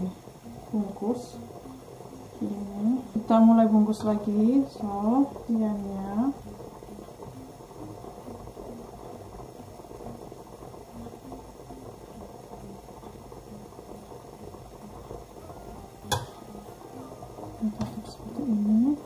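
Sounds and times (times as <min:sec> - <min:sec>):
water boiling in pot: 0:00.0 - 0:19.0.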